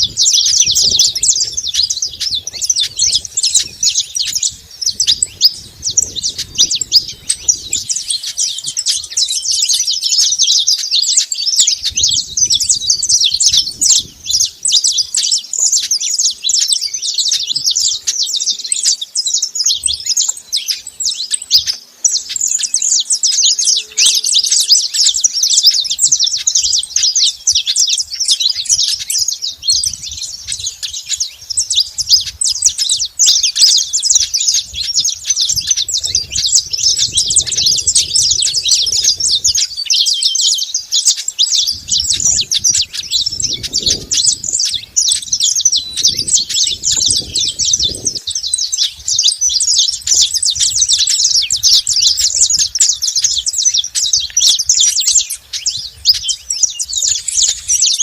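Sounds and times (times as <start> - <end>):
finches chirping and singing: 0.0 - 58.0.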